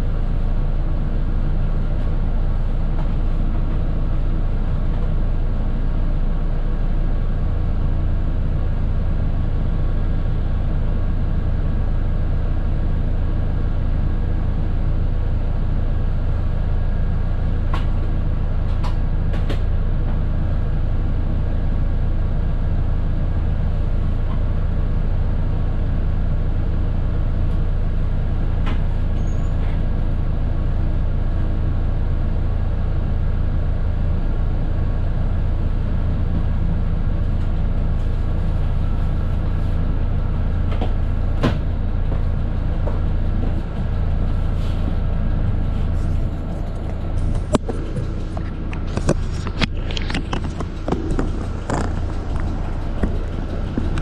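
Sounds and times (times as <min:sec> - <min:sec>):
diesel bus engine idling: 0:00.0 - 0:54.0.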